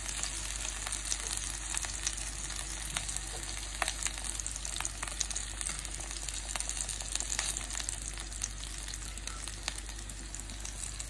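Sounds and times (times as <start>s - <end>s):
chicken sizzling and crackling: 0.0s - 11.0s.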